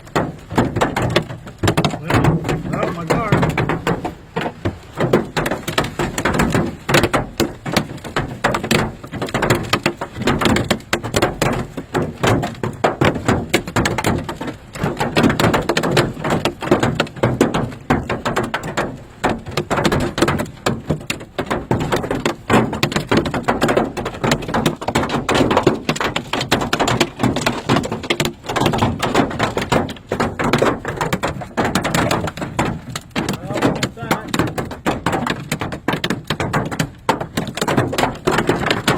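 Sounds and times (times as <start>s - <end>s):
hail hammering car roof: 0.0s - 38.9s.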